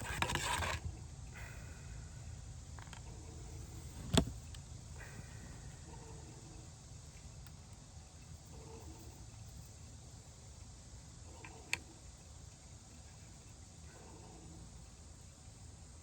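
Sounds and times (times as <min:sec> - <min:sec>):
faint low background rumble: 0:00.0 - 0:16.0.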